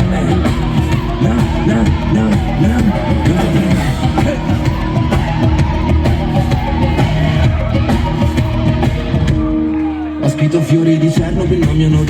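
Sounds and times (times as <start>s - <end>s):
steady drum beat: 0.0s - 10.0s, 11.0s - 12.0s
live band music: 0.0s - 12.0s.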